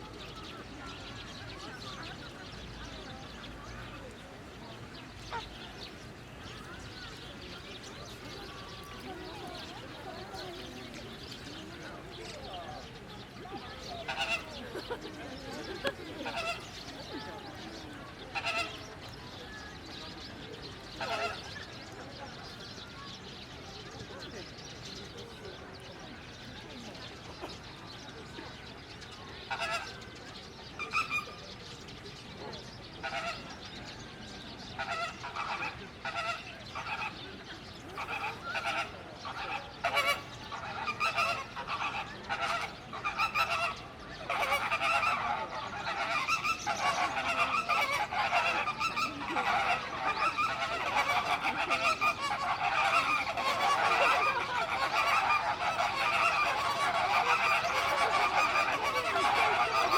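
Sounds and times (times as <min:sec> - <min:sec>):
flock of birds honking: 0:00.0 - 0:23.2, 0:26.7 - 0:32.0, 0:32.9 - 0:59.9.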